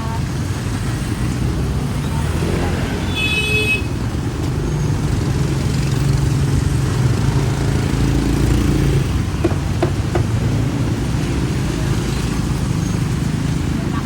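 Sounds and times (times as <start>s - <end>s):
motorbike engine rumble: 0.0s - 14.0s
street traffic: 0.0s - 14.0s.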